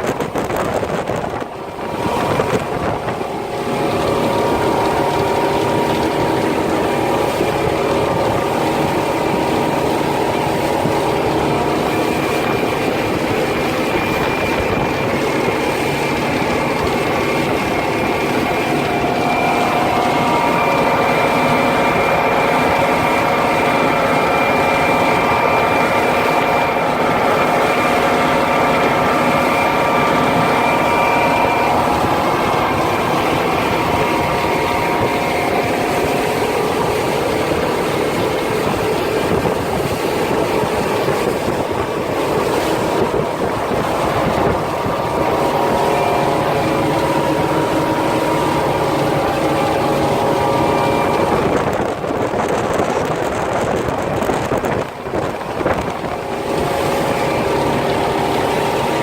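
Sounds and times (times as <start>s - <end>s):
outboard engines hum: 0.0s - 59.0s
rush of wind and water: 0.0s - 59.0s.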